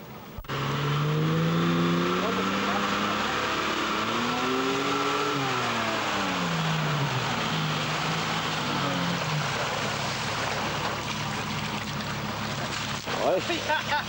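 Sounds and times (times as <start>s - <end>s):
truck engine slowing: 0.0s - 14.0s.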